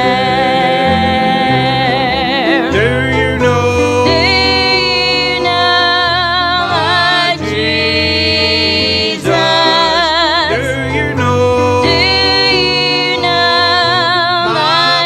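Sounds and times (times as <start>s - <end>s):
gospel church music: 0.0s - 15.0s
person singing with vibrato: 0.0s - 15.0s.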